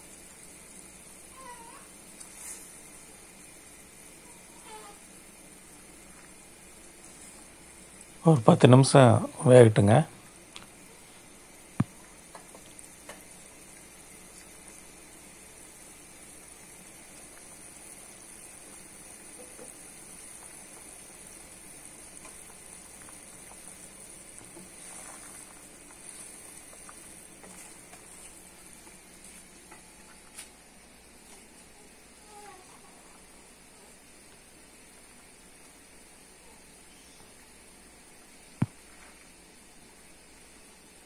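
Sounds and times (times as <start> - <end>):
curry bubbling in a pan: 0.0 - 8.8, 10.2 - 41.0.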